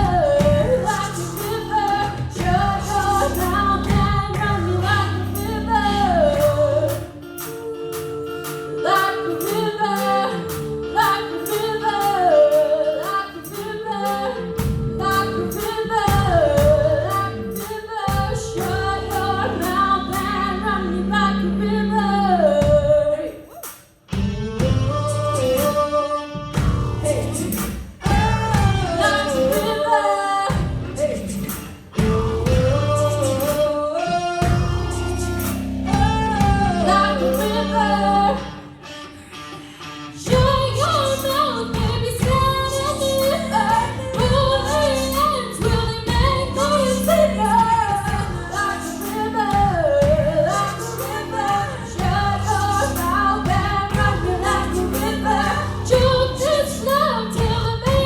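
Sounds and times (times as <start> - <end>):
woman singing: 0.0 - 58.0.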